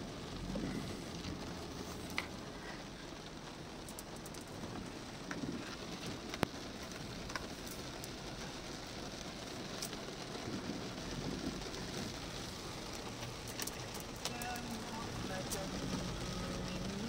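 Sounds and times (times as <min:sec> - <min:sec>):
rain on a car roof: 0:00.0 - 0:17.0
raindrop ticks: 0:00.0 - 0:17.0.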